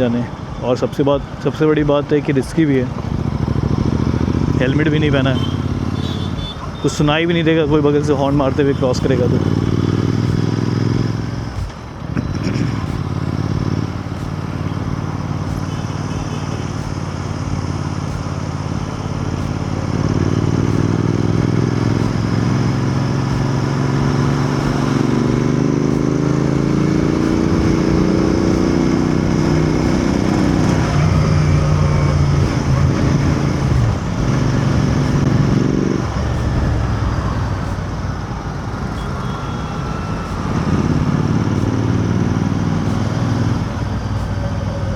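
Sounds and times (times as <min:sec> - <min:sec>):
motorcycle engine accelerating: 0:02.6 - 0:44.9.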